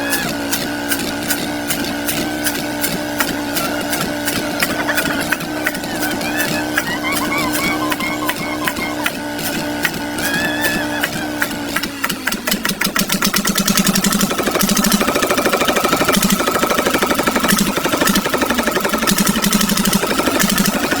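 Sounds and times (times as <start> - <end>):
small diesel engine knocking: 0.0 - 21.0.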